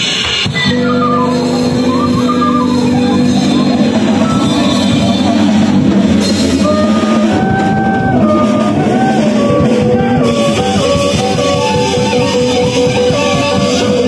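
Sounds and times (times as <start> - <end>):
bass: 0.0 - 14.0
drum kit: 0.0 - 14.0
electric guitar: 0.0 - 14.0
end-blown flute melody: 0.5 - 14.0.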